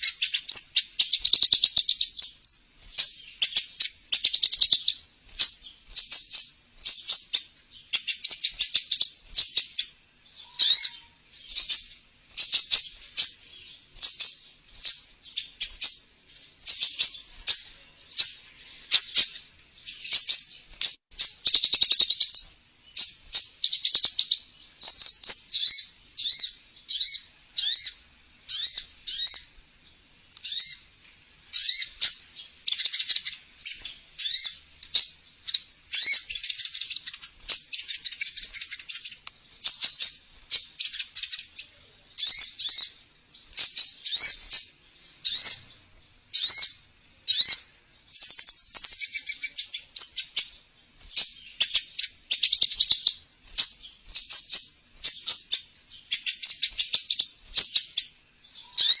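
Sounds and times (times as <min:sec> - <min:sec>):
bird chirping and trilling: 0:00.0 - 0:59.0.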